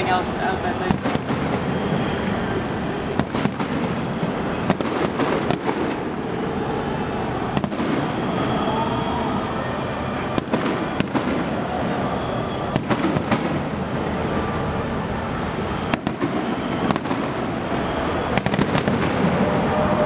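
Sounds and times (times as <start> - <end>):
distant fireworks bursting: 0.0 - 20.0
steady background noise: 0.0 - 20.0.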